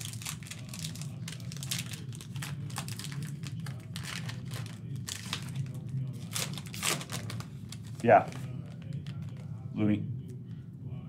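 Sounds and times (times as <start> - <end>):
plastic wrapper crinkling: 0.0 - 9.4
low steady hum: 0.0 - 11.0.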